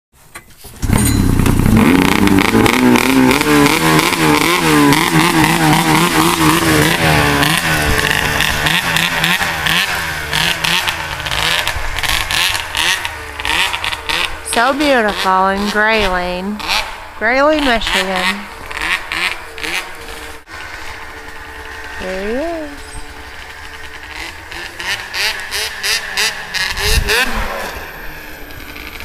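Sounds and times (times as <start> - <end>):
snowmobile engine revving: 0.8 - 29.0.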